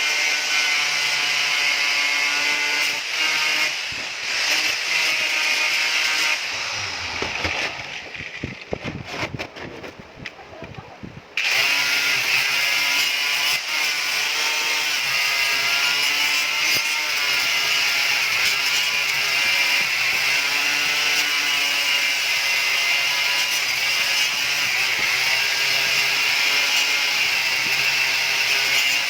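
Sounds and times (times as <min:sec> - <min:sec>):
power tool working metal: 0:00.0 - 0:08.6, 0:11.4 - 0:29.0.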